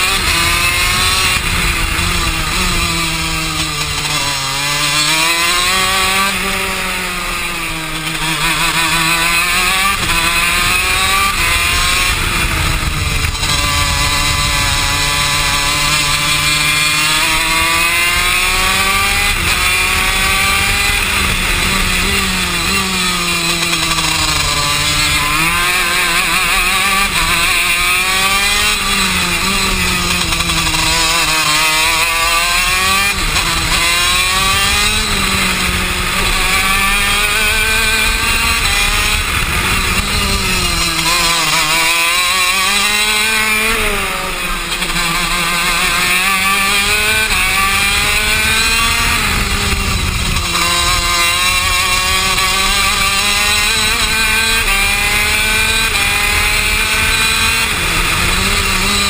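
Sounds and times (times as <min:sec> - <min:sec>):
kart engine at racing speed: 0:00.0 - 0:59.0
wind noise: 0:00.0 - 0:59.0.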